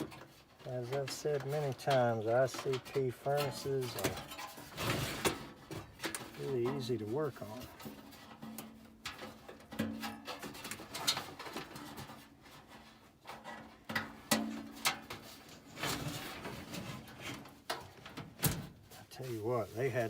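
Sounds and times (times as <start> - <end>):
clicks and knocks on sheet metal: 0.0 - 6.9, 7.6 - 18.8.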